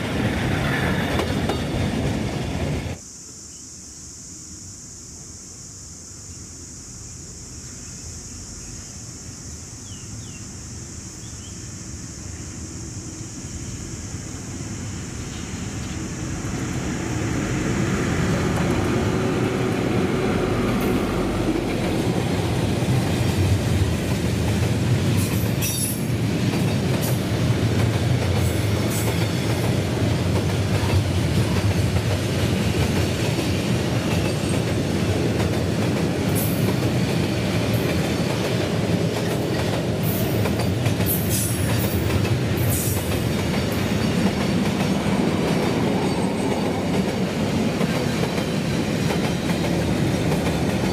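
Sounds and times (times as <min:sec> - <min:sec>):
diesel locomotive engine: 0:00.0 - 0:03.0, 0:10.9 - 0:50.9.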